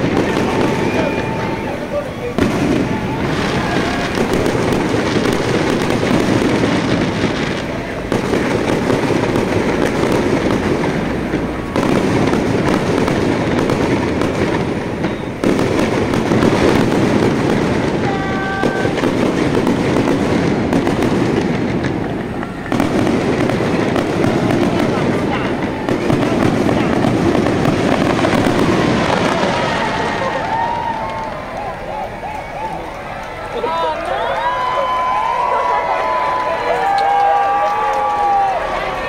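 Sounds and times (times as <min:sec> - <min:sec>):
fireworks crackling and rumbling: 0:00.0 - 0:39.0.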